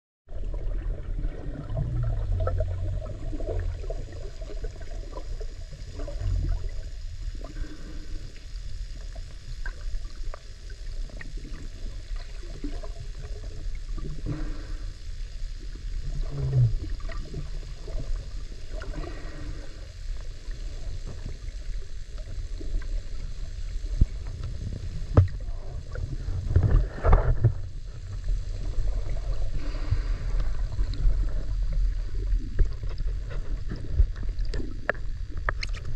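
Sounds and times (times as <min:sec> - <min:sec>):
underwater rumble: 0:00.3 - 0:35.9.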